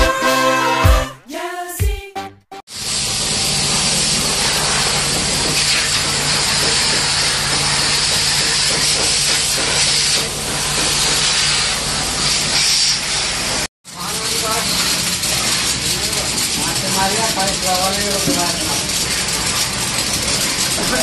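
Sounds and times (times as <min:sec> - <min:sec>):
pump motor hum: 0:02.7 - 0:21.0
water spraying hiss: 0:02.7 - 0:21.0.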